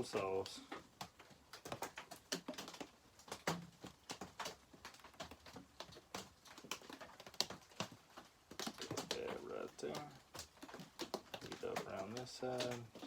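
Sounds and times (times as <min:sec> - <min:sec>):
rain pattering on roof: 0:00.0 - 0:13.0.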